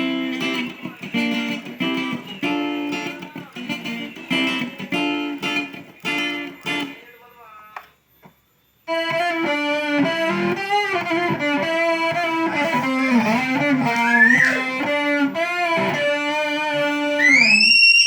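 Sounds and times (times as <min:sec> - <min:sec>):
electric guitar lead melody: 0:00.0 - 0:07.0, 0:08.9 - 0:17.6.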